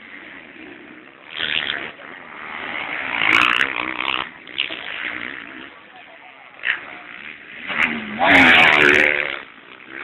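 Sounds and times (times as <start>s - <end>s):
motorbike engine revving past: 0.0s - 6.0s, 6.6s - 10.0s.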